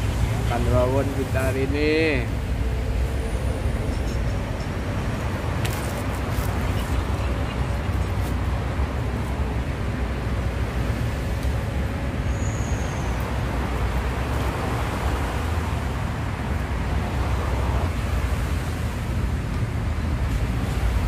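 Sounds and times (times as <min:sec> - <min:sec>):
outdoor rumble and hiss: 0:00.0 - 0:21.0.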